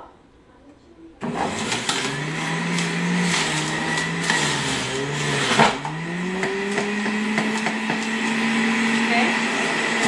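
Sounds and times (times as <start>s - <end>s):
juicer motor humming: 1.2s - 10.0s.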